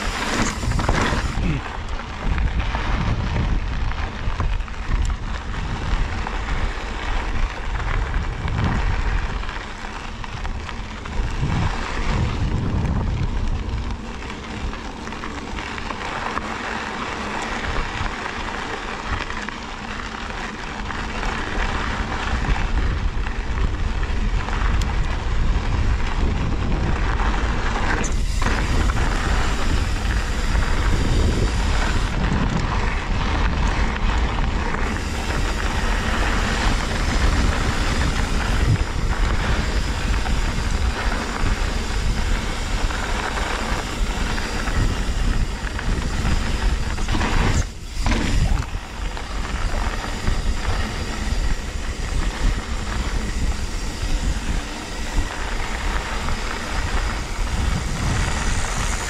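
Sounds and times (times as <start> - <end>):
bike tyres rolling over dirt: 0.0 - 59.0
wind noise: 0.0 - 59.0.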